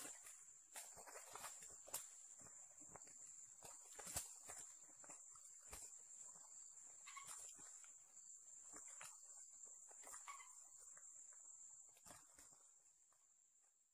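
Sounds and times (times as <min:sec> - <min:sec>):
roosters scuffling: 0:00.0 - 0:12.7.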